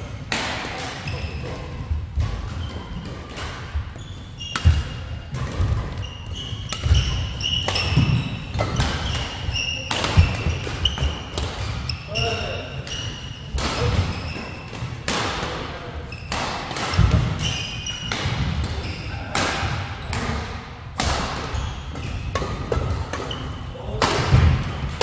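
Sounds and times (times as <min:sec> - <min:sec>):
racket hitting shuttlecock: 0:00.2 - 0:01.5, 0:02.2 - 0:12.1, 0:12.8 - 0:25.0
sneakers squeaking on floor: 0:00.9 - 0:15.1, 0:15.7 - 0:20.4, 0:21.2 - 0:25.0.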